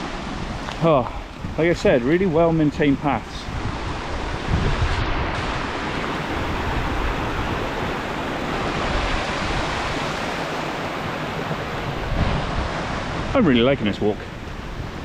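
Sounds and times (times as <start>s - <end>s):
fast-flowing river rushing: 0.0s - 15.0s.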